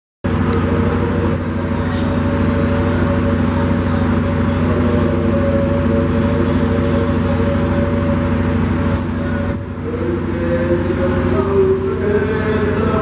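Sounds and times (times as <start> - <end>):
loud steady hum: 0.2 - 13.0.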